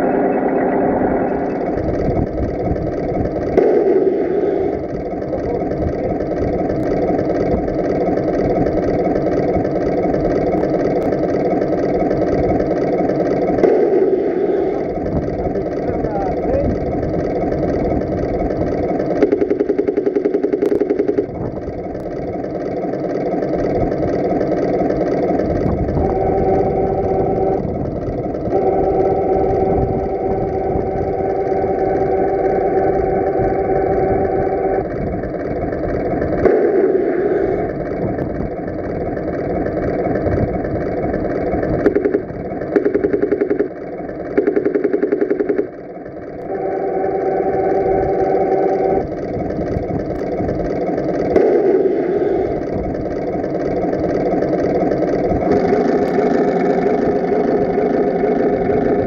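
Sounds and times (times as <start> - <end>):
rapid rattling pulses: 0.0 - 59.0
simulated tank engine idling: 0.0 - 59.0
steady humming tones: 0.0 - 59.0.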